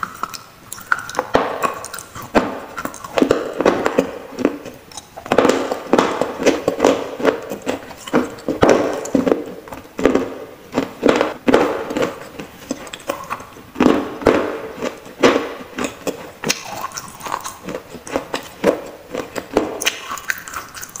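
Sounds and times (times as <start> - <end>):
crunching and chewing clay: 0.0 - 21.0.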